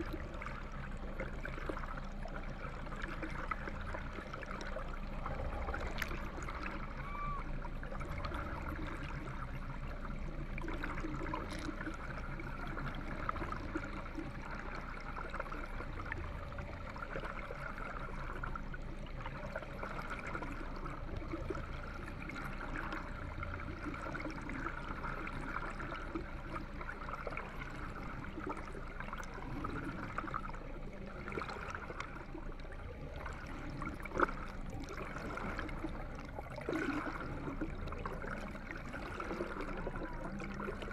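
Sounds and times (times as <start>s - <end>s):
steady low hum: 0.0s - 40.9s
underwater water rushing: 0.0s - 40.9s.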